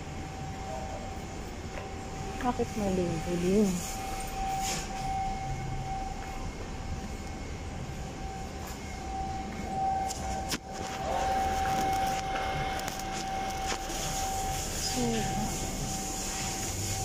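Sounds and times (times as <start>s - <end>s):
high-pitched hum: 0.0s - 17.0s
indoor market background noise: 0.0s - 17.0s.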